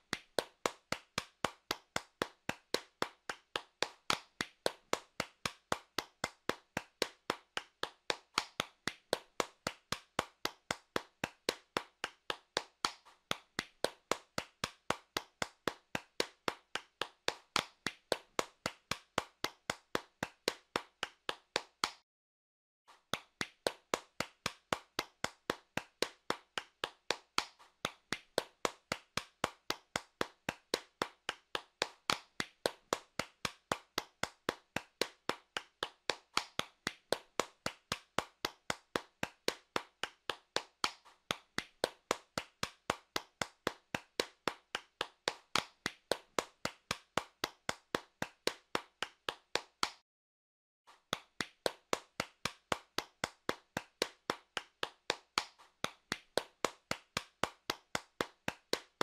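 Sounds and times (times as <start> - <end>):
hands clapping: 0.0 - 22.0, 22.9 - 50.0, 50.9 - 59.0.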